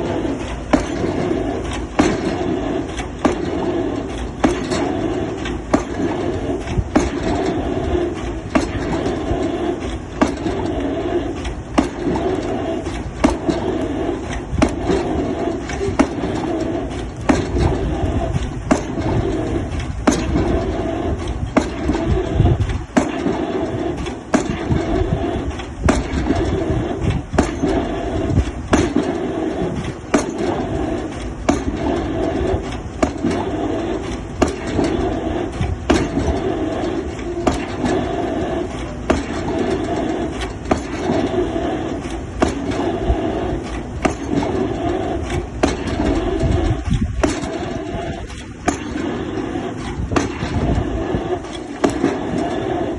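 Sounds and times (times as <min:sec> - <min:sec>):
drop hammer blows on pile: 0:00.0 - 0:10.8, 0:11.4 - 0:41.4, 0:43.6 - 0:52.9
diesel engine and hydraulics: 0:00.0 - 0:52.9.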